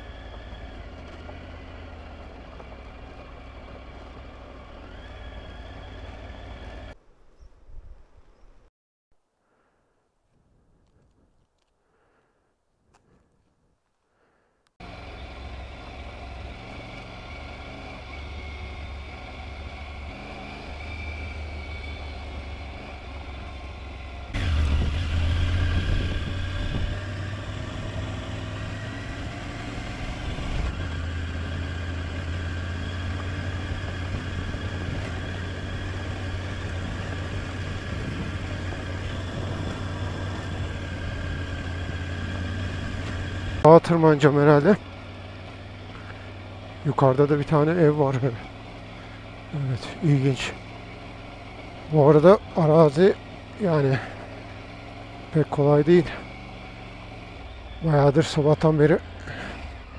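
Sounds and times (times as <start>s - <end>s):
motorcycle engine running: 0.0s - 7.0s, 14.8s - 59.9s.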